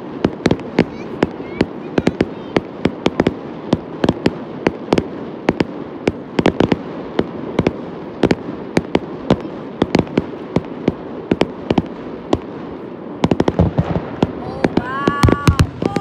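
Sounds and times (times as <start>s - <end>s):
fireworks bangs and pops: 0.0s - 16.0s.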